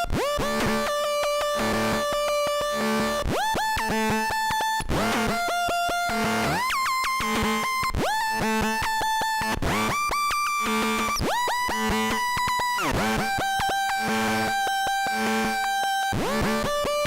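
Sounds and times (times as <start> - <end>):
buzzy synthesizer lead: 0.0 - 17.0.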